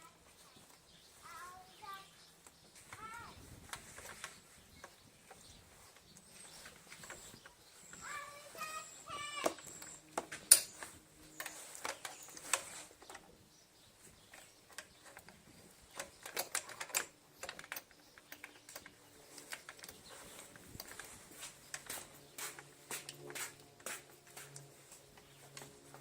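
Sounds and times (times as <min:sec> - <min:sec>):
small parts clicking and tapping: 0:02.4 - 0:13.4, 0:14.3 - 0:26.0.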